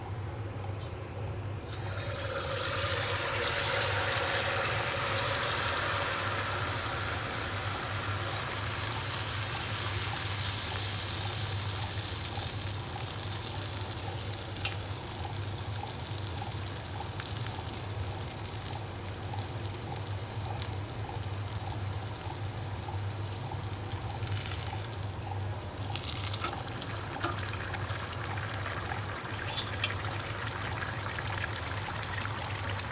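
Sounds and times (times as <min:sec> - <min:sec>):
batter sizzling in hot oil: 0:01.6 - 0:32.9.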